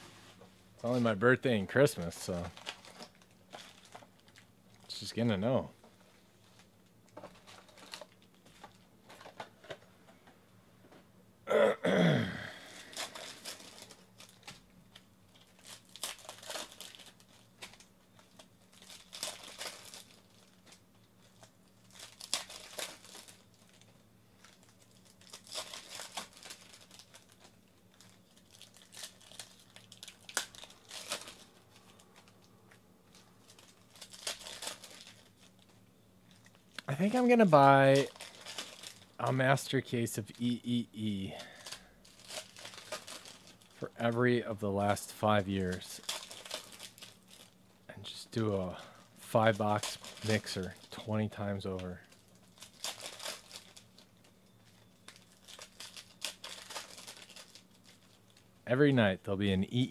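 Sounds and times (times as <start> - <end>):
card pack wrappers tearing: 0.8 - 5.6, 6.4 - 9.8, 12.4 - 58.6.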